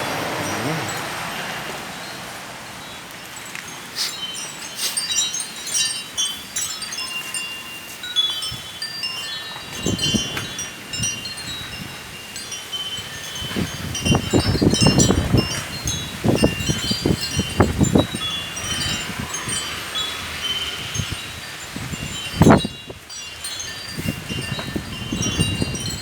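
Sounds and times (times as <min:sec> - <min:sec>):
wind gusts on microphone: 0:00.0 - 0:07.4, 0:08.4 - 0:26.0
wind chime ringing: 0:00.0 - 0:26.0.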